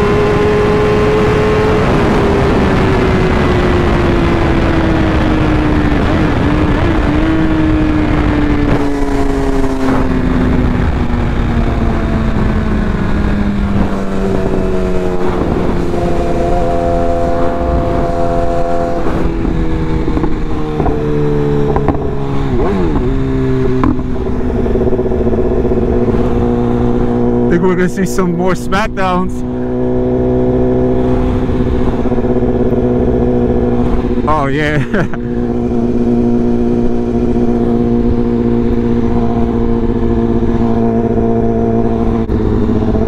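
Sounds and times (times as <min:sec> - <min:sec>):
wind rushing: 0:00.0 - 0:34.5
motorcycle engine running: 0:00.0 - 0:43.0.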